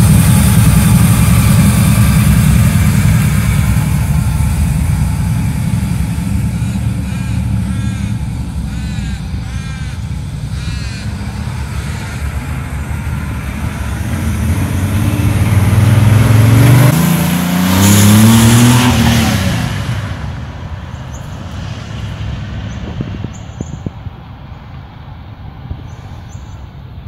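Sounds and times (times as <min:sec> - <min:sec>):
van accelerating past: 0:00.0 - 0:23.6.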